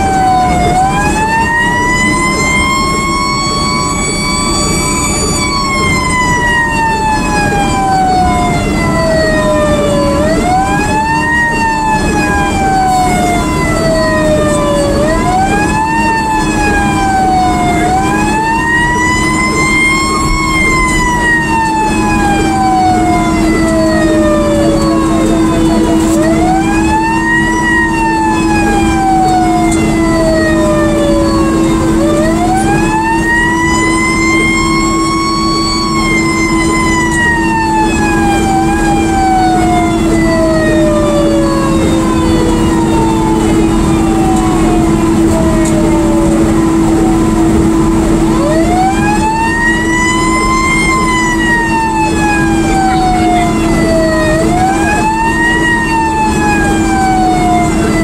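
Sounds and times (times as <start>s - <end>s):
fire engine siren: 0.0s - 58.0s
truck low hum: 0.0s - 58.0s.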